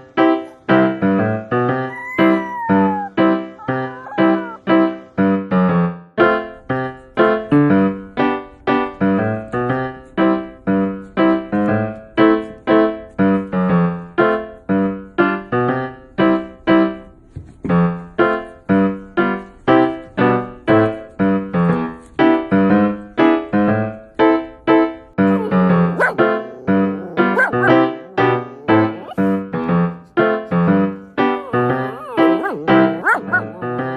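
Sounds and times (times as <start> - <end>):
piano music: 0.0 - 14.6, 18.2 - 33.9.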